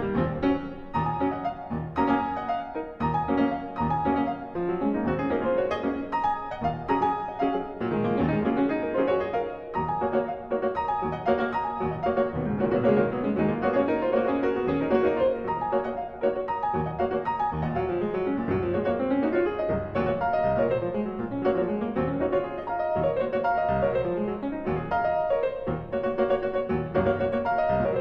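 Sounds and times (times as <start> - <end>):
classical piano music: 0.0 - 28.0.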